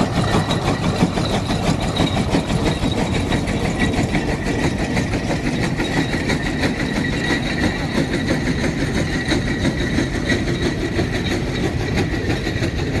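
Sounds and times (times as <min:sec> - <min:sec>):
steam engine exhaust beating: 0:00.0 - 0:13.0.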